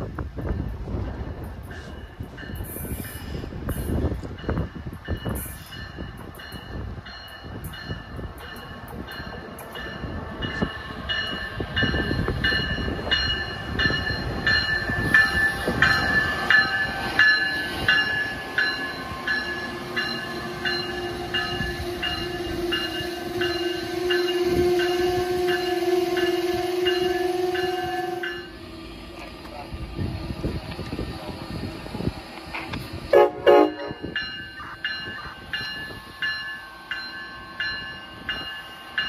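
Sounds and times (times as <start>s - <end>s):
steady locomotive hum: 0.0s - 39.0s
train rumbling: 0.0s - 39.0s
locomotive bell ringing: 0.4s - 30.1s, 33.2s - 39.0s.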